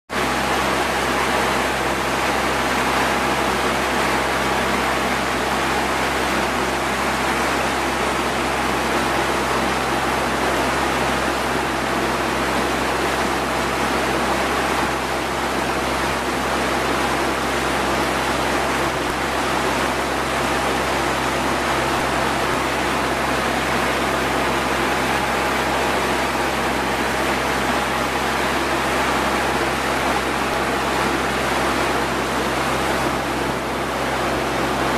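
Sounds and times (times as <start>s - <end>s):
boat engine hum: 0.1s - 34.9s
water rushing along hull: 0.1s - 34.9s.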